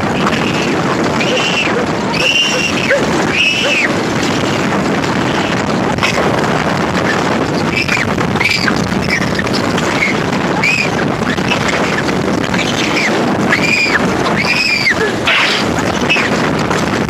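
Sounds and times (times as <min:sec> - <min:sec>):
riders screaming: 0:00.0 - 0:05.6, 0:07.1 - 0:16.5
roller coaster train rumble and rattle: 0:00.0 - 0:17.0
wind buffeting microphone: 0:00.0 - 0:17.0.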